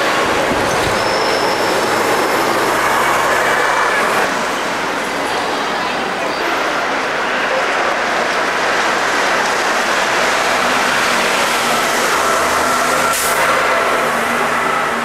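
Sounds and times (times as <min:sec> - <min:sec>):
bus engine passing: 0:00.0 - 0:15.0
busy street traffic: 0:00.0 - 0:15.0.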